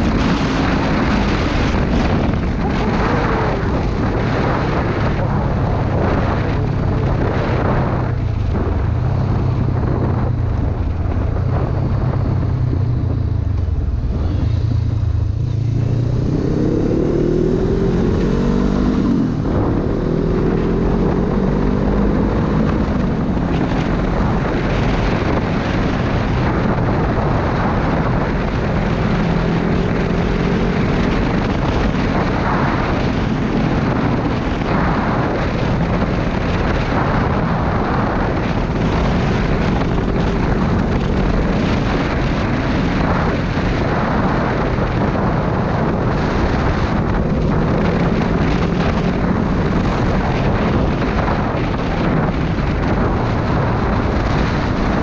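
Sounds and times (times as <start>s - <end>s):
motorcycle engine accelerating: 0.0s - 55.0s
wind rush: 0.0s - 55.0s.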